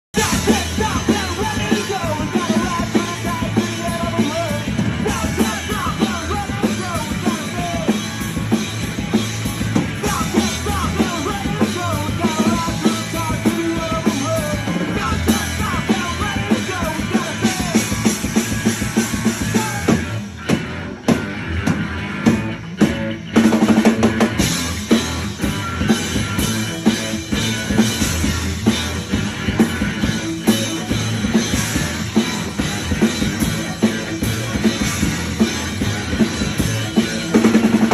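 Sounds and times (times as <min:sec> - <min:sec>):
rock band playing live: 0:00.1 - 0:37.9.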